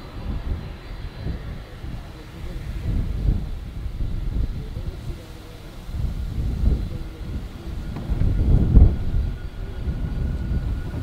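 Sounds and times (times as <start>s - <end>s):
jet aircraft rumble: 0.0s - 11.0s
wind on microphone: 0.0s - 11.0s.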